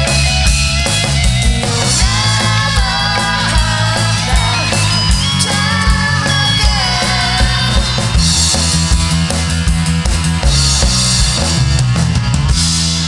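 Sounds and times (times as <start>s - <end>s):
bass guitar: 0.0s - 13.0s
drum kit kick and snare: 0.0s - 13.0s
electric guitar: 0.0s - 13.0s.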